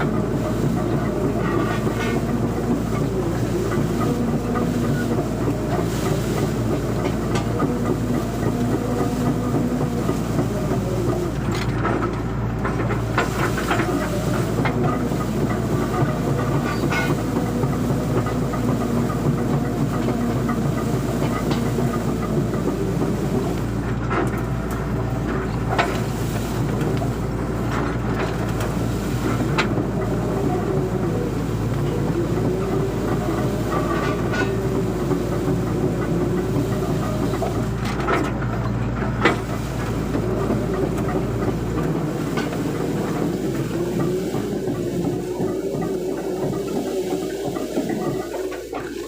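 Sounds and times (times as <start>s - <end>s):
clanks and crackling knocks: 0.0s - 49.0s
excavator diesel engine: 0.0s - 49.0s.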